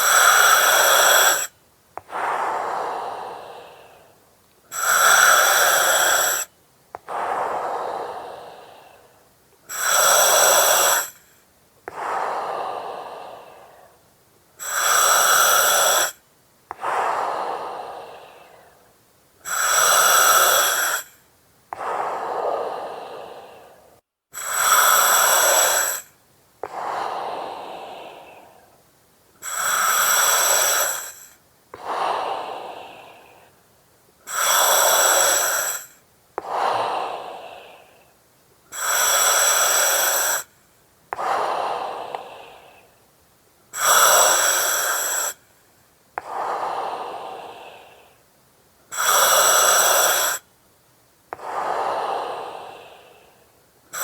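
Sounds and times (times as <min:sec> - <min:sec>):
breathing through oxygen mask: 0:00.0 - 0:14.0, 0:14.6 - 0:28.8, 0:29.4 - 0:33.6, 0:34.2 - 0:38.1, 0:38.7 - 0:43.0, 0:43.7 - 0:45.4, 0:46.2 - 0:48.2, 0:48.9 - 0:50.4, 0:51.4 - 0:54.0.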